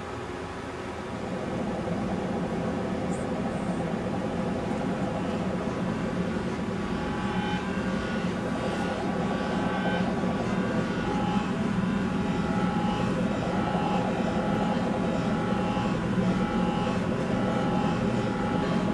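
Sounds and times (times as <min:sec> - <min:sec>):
dense electronic drone: 0:00.0 - 0:18.9.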